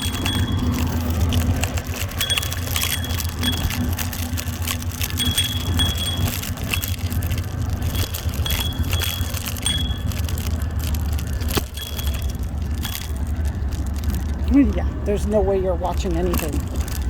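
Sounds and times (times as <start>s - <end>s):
scooter rattling over gravel: 0.0s - 17.0s.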